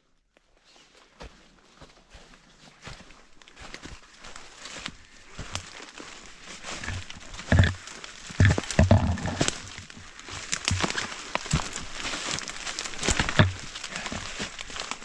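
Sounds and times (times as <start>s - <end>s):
footsteps crunching through dry leaves: 0.6s - 15.0s.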